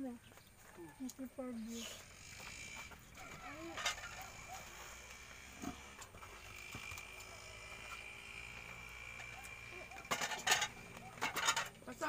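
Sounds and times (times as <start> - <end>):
faint animal calls: 0.6 - 11.3
steady high-pitched whine: 1.7 - 12.0.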